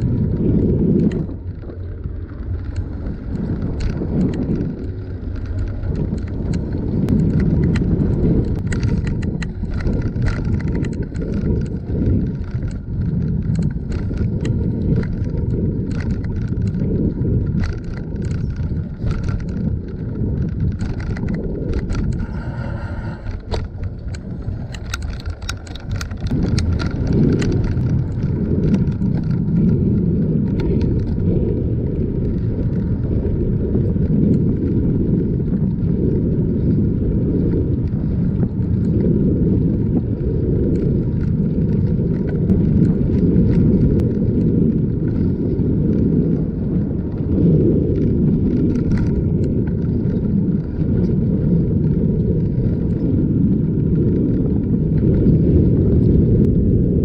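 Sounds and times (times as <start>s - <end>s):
bicycle clicks and rattles: 0.0s - 57.0s
wind and tyres on pavement: 0.0s - 57.0s.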